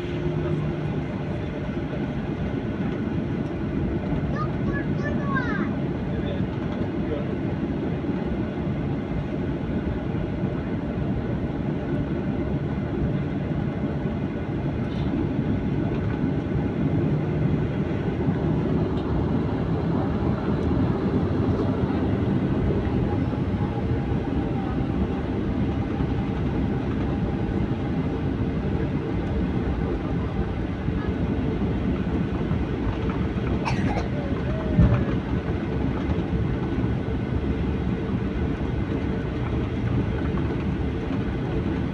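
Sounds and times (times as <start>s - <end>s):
airplane cabin rumble: 0.0s - 41.9s
jet engine whine: 0.0s - 41.9s.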